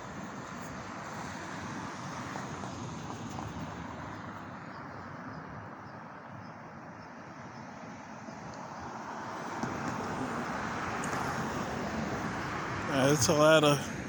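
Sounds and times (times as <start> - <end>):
outdoor street noise: 0.0 - 14.0.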